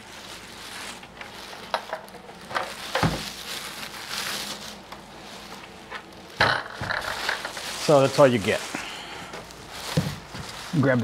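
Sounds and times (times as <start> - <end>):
plastic wrap rustling and crinkling: 0.0 - 11.0.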